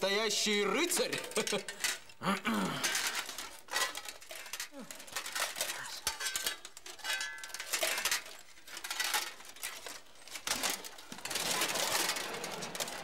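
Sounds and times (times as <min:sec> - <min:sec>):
armour plates clinking: 0:00.0 - 0:13.0.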